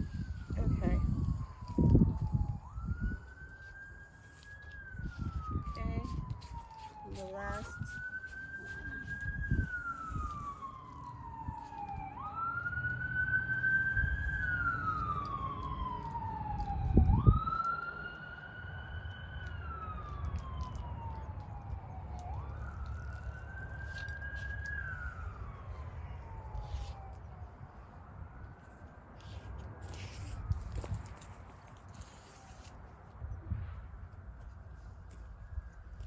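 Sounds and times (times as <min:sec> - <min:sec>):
distant siren wailing: 0:00.0 - 0:36.0.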